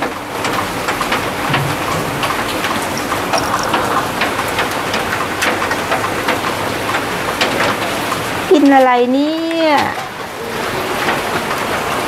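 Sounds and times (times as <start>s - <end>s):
heavy rain with dripping taps: 0.0s - 12.0s.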